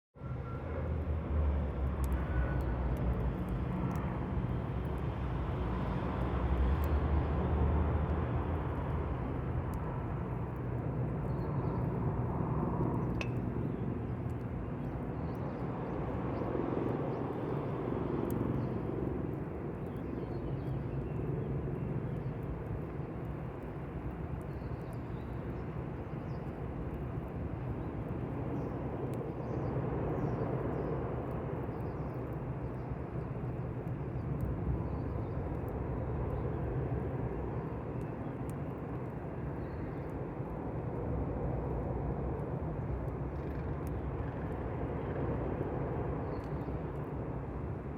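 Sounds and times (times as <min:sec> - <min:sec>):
fire low rushing: 0:00.8 - 0:47.9
fire crackles: 0:01.3 - 0:47.9.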